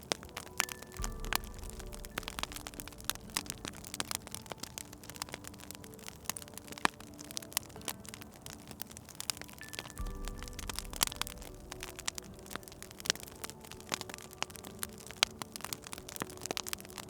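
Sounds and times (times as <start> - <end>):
soft background music: 0.0 - 17.0
wood fire crackling and popping: 0.0 - 17.0.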